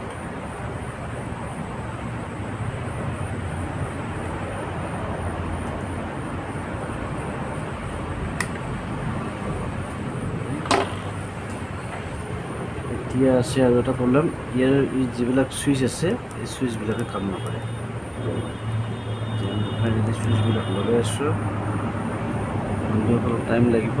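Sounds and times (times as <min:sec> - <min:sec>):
rushing background noise: 0:00.0 - 0:24.0.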